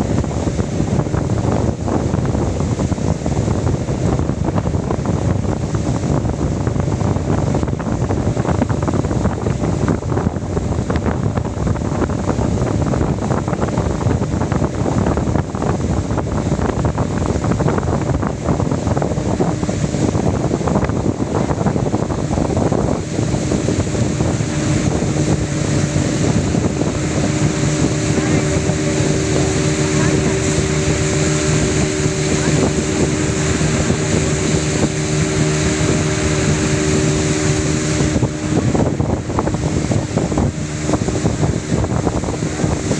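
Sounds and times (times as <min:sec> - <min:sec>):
boat engine running: 0:00.0 - 0:42.9
wind buffeting microphone: 0:00.0 - 0:42.9.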